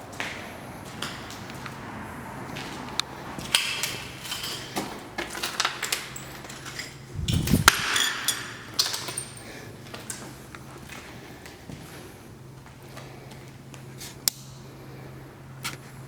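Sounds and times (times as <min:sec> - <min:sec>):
footsteps crunching on debris: 0:00.0 - 0:13.1.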